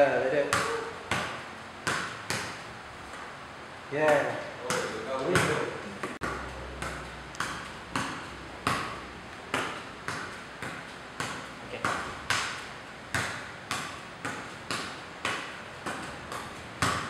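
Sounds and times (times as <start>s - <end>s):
football thuds with echo: 0.4s - 2.6s, 4.0s - 17.0s.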